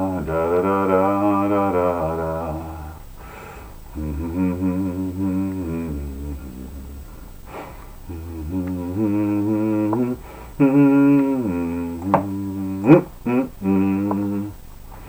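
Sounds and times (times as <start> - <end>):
man humming a tune: 0.0 - 14.7.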